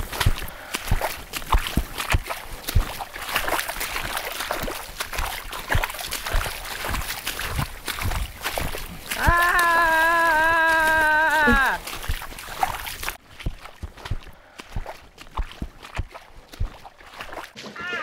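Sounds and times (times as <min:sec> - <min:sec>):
boots splashing through muddy water: 0:00.0 - 0:18.0.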